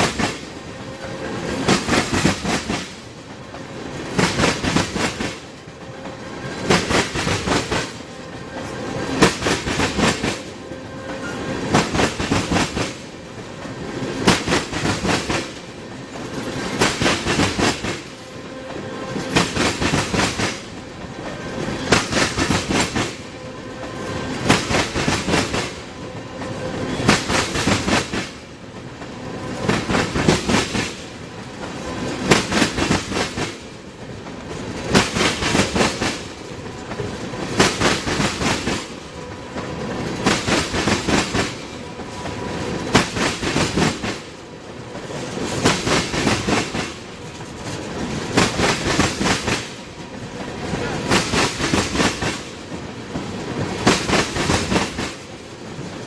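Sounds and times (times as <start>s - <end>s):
train wheels clacking on rails: 0.0s - 56.0s.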